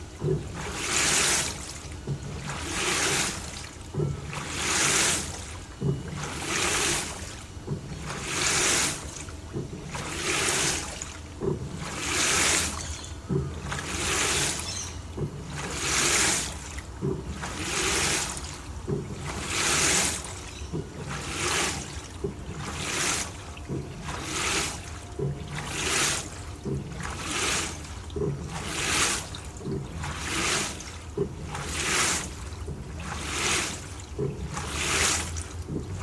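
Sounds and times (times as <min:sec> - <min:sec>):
washing machine sloshing water: 0:00.0 - 0:36.0.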